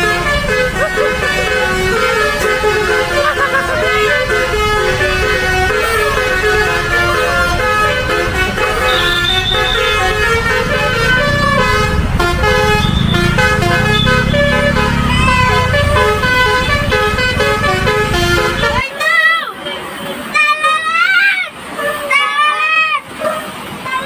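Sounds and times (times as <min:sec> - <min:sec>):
bus engine running: 0:00.0 - 0:20.5
multi-tone bus horn tune: 0:00.0 - 0:24.0.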